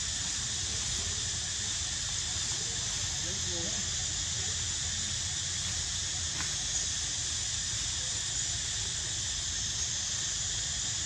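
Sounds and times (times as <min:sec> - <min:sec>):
high insect chorus: 0:00.0 - 0:11.0.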